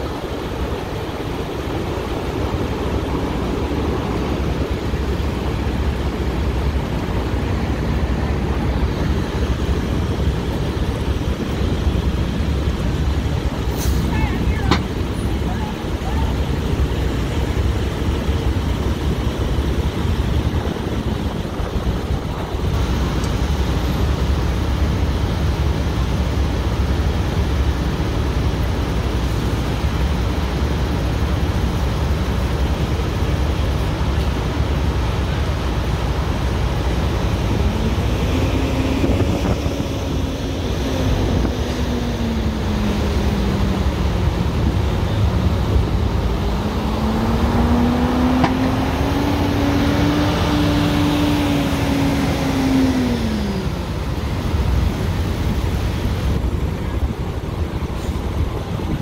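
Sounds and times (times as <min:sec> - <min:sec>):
truck cab burning roar: 0:00.0 - 0:59.0
wind noise on microphone: 0:00.0 - 0:59.0.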